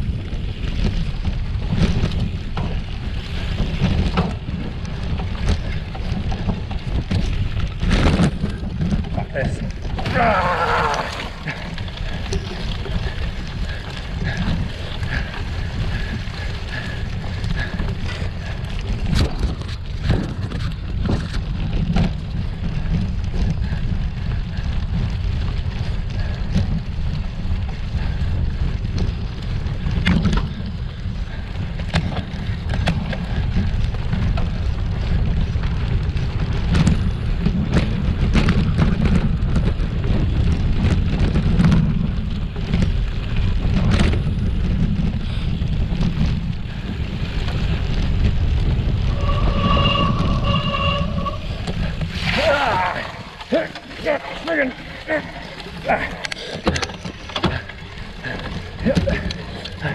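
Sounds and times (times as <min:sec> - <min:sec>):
bike knocking and rattling: 0:00.0 - 0:59.9
bike tyres on rocky trail: 0:00.0 - 0:59.9
wind buffeting microphone: 0:00.0 - 0:59.9.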